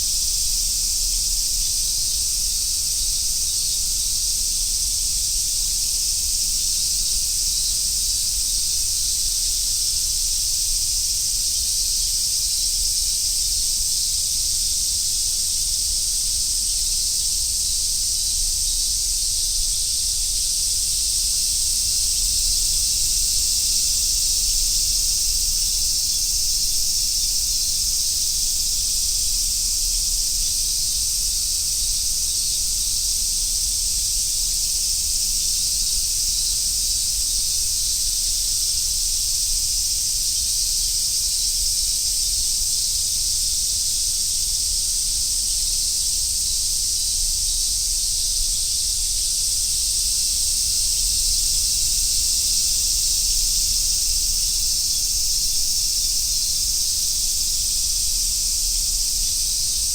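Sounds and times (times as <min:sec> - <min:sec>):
cicadas calling: 0:00.0 - 0:59.9.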